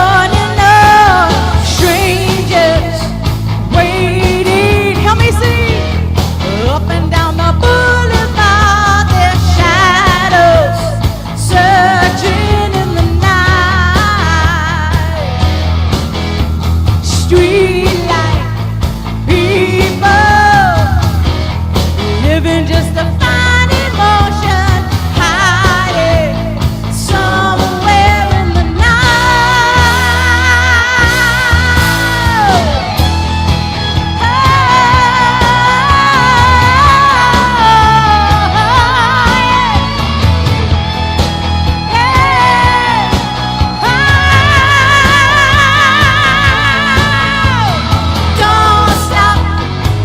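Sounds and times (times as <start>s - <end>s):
person singing with vibrato: 0.0s - 15.4s, 17.0s - 21.5s, 22.1s - 50.0s
backing track with bass: 0.0s - 50.0s.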